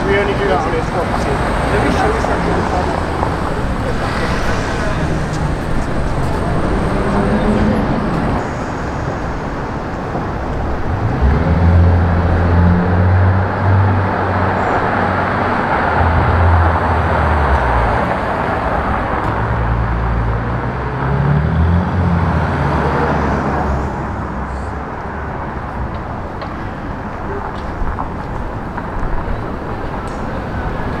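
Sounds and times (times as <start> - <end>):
street traffic noise: 0.0 - 31.0.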